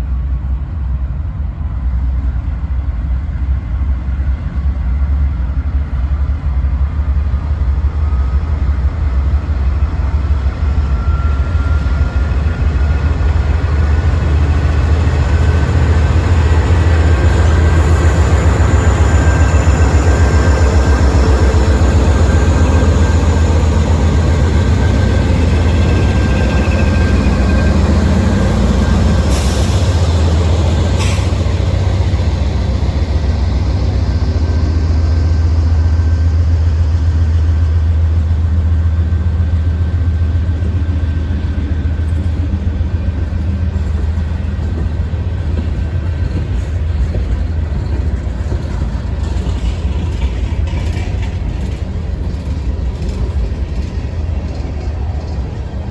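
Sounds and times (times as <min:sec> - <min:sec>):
train rumbling past: 0:00.0 - 0:55.9.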